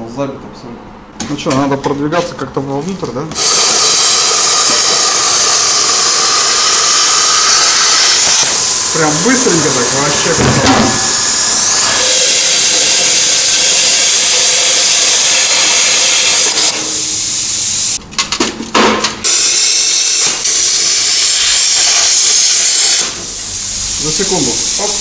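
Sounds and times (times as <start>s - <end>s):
plasma cutter hissing: 3.3s - 18.0s, 19.2s - 25.0s.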